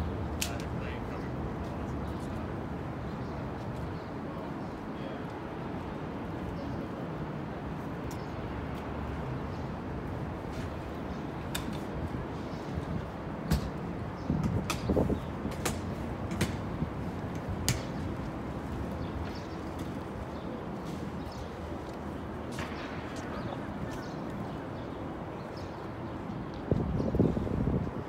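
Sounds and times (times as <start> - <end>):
city background noise: 0.0 - 28.0.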